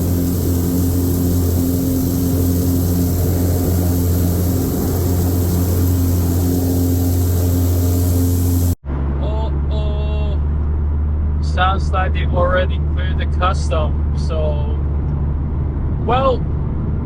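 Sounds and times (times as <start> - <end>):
engine drone with deep hum: 0.0 - 17.0.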